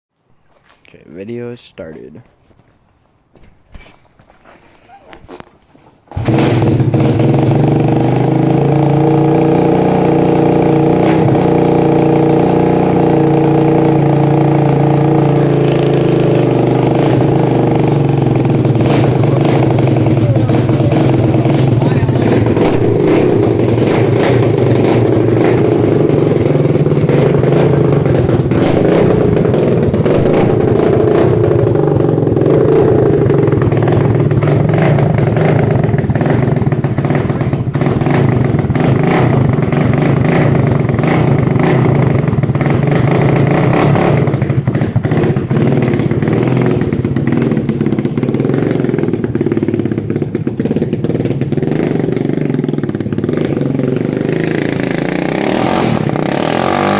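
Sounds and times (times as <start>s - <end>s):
unmuffled engine running: 6.2s - 56.4s.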